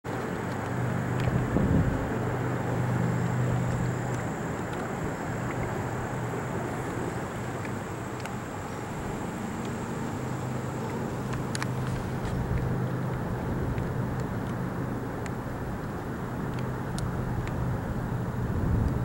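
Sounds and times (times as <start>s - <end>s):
distant engine drone: 0.1s - 19.0s
low hum: 0.1s - 19.0s.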